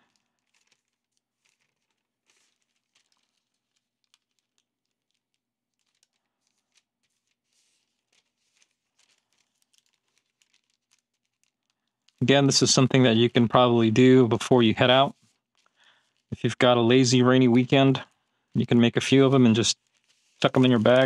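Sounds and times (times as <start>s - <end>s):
paper crinkling: 0.0s - 21.0s.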